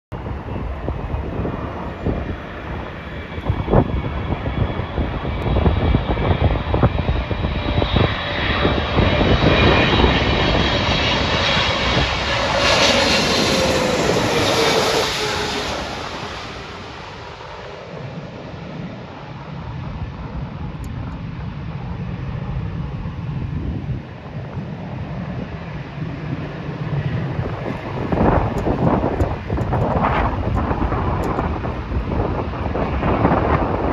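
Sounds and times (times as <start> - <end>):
jet engine whine: 0.1 - 33.9
jet passing overhead: 0.1 - 33.9.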